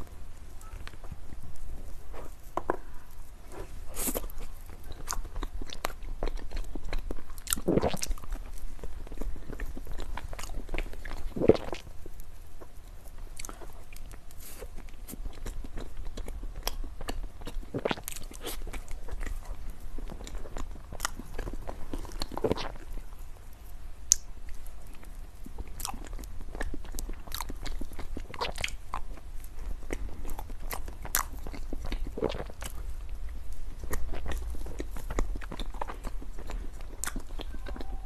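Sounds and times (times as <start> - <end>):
person chewing dessert: 0.6 - 38.0.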